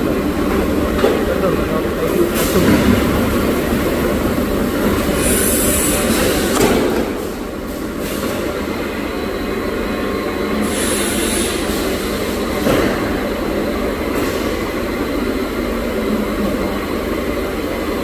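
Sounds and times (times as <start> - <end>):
machinery mechanical rumble: 0.0 - 18.0.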